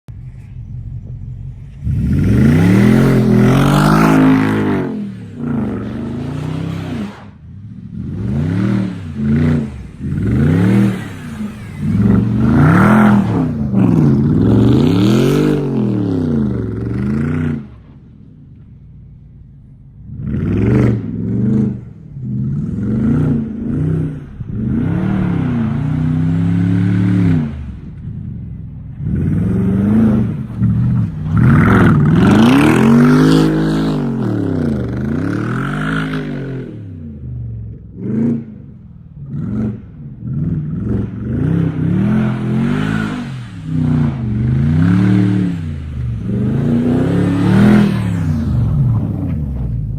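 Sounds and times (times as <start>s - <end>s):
car engine revving: 0.0s - 18.2s, 19.9s - 49.9s.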